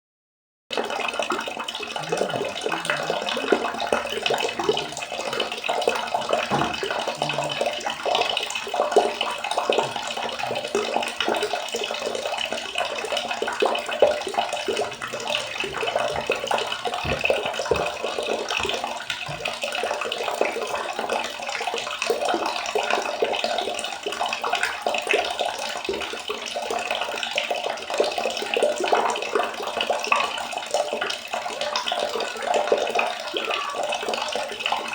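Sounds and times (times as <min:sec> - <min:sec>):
water splashing and trickling: 0:00.7 - 0:34.9.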